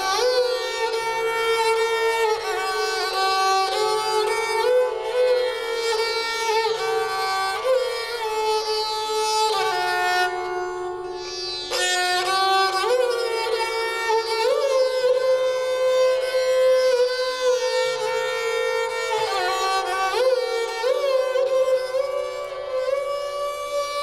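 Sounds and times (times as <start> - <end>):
bowed string instrument melody: 0.0 - 24.0.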